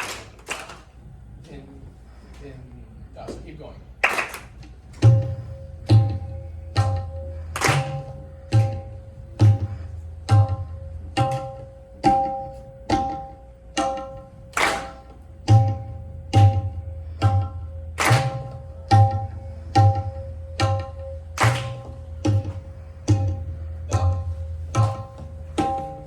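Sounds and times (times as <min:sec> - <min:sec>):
tabla playing slowly: 0:04.6 - 0:26.0.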